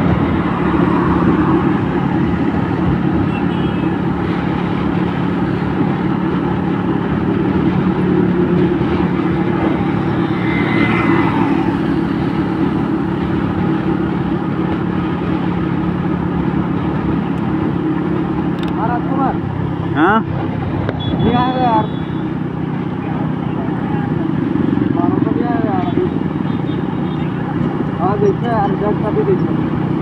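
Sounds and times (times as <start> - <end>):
tyre and road noise: 0.0 - 30.0.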